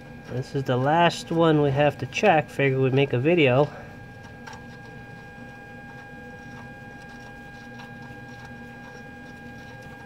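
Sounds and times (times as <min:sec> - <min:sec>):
high-pitched hum: 0:00.0 - 0:10.0.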